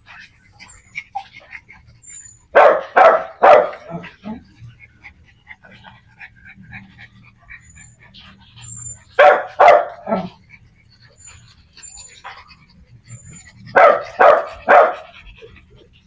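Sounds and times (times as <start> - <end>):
dogs yipping: 0.0 - 16.0
small dogs barking: 0.0 - 16.0.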